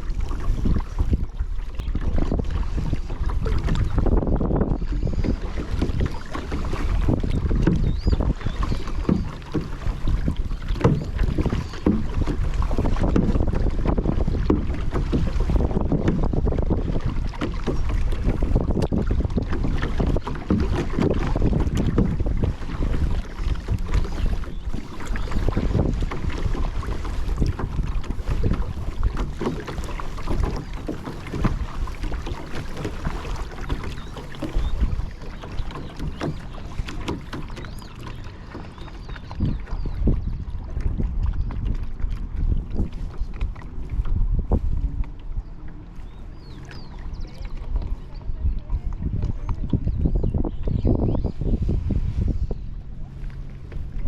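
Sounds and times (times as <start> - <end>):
water splashing around kayak: 0.0 - 54.0
wind rumble on microphone: 0.0 - 54.0.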